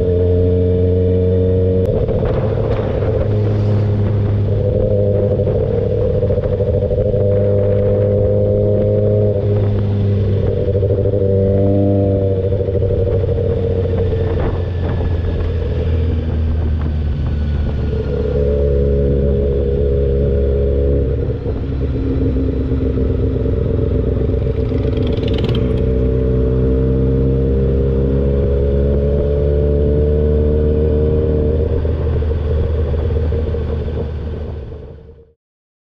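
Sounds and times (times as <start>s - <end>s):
motorcycle engine cruising: 0.0s - 35.2s.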